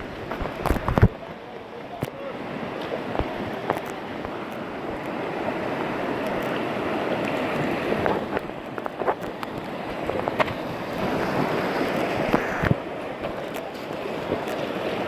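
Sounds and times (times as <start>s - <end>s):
splashes and knocks on kayak hull: 0.0s - 5.2s, 6.2s - 15.0s
river rapids rushing: 0.0s - 15.0s.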